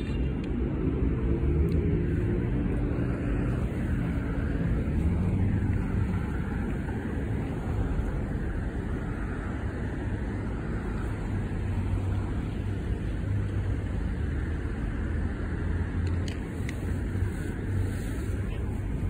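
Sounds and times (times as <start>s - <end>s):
low rumble of cars passing: 0.0s - 19.0s.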